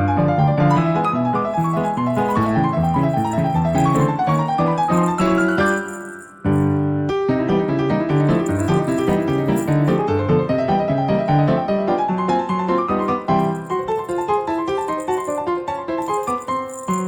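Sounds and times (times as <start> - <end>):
piano music with busy notes: 0.0 - 17.0.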